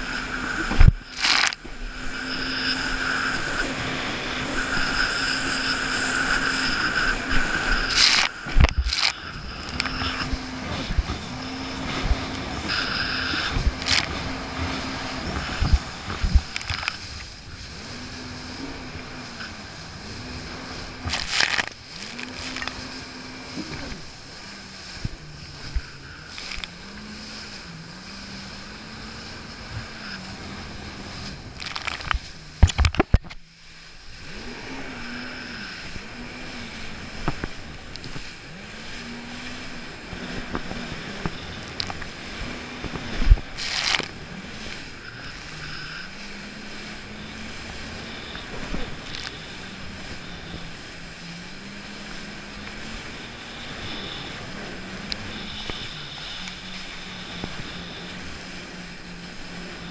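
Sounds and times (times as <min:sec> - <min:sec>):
water spray: 0:00.0 - 0:32.7, 0:33.7 - 0:59.9
wind on microphone: 0:00.0 - 0:33.4, 0:34.1 - 0:59.9
jet ski engine running: 0:00.0 - 0:59.9.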